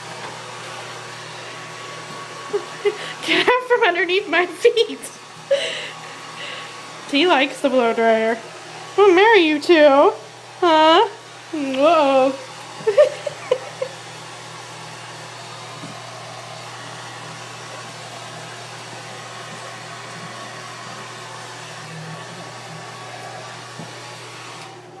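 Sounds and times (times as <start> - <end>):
blow dryer running: 0.0 - 25.0.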